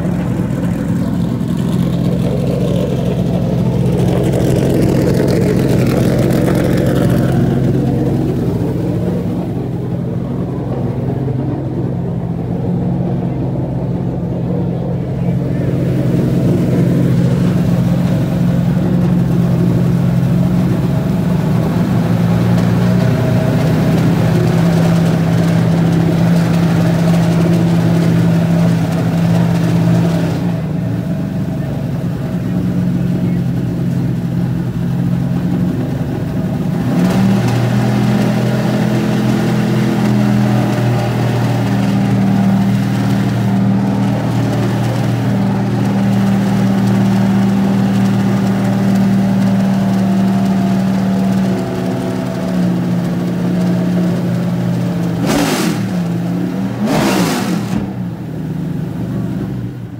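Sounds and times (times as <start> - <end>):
race car engine idling: 0.0 - 59.9.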